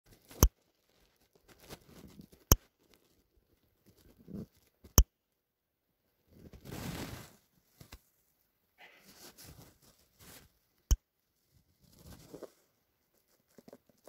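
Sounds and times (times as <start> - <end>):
soft rustling: 0.1 - 4.9, 6.3 - 14.0.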